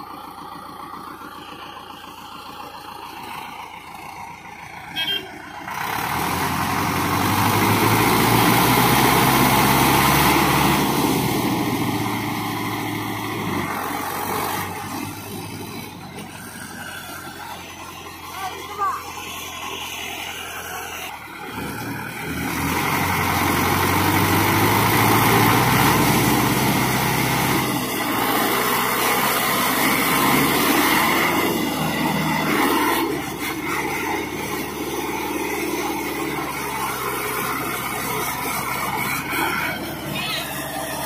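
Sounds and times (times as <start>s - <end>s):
diesel tractor engine under load: 0.0s - 41.0s.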